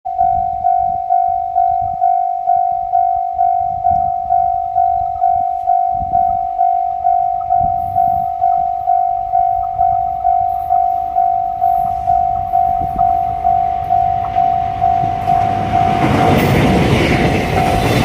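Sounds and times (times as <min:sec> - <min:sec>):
level-crossing alarm ringing: 0:00.1 - 0:18.0.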